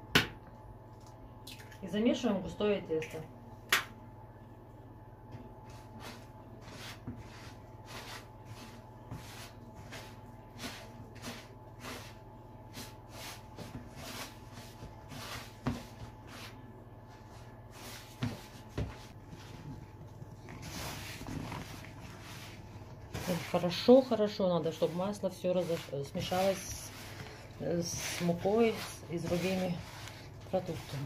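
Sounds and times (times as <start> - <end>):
hands kneading dough: 5.4 - 31.0.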